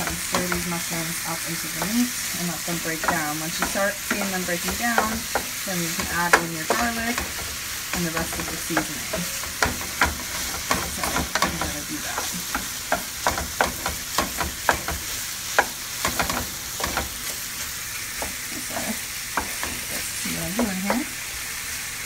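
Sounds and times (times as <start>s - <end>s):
wooden spoon knocking and scraping pan: 0.0s - 18.6s, 19.3s - 21.1s
food sizzling in frying pan: 0.0s - 22.0s.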